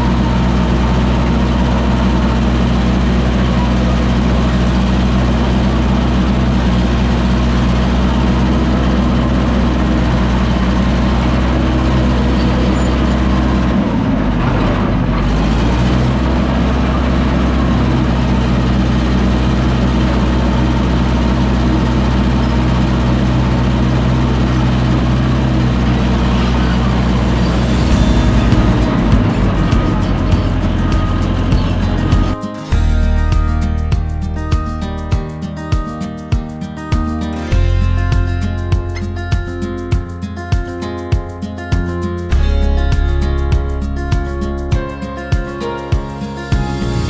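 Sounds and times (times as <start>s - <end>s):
diesel engine running: 0.0s - 35.1s, 42.3s - 47.0s.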